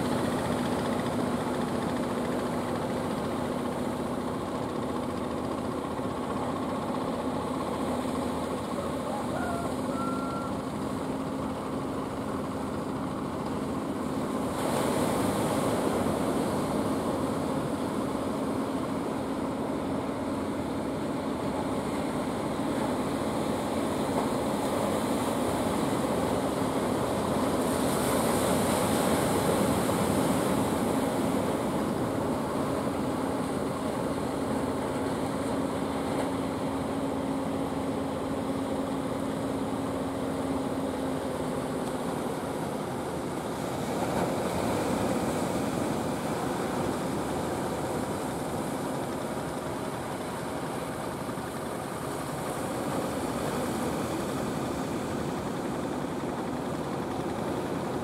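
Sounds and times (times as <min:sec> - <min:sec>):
boat engine humming: 0:00.0 - 0:58.0
waves washing: 0:00.0 - 0:58.0.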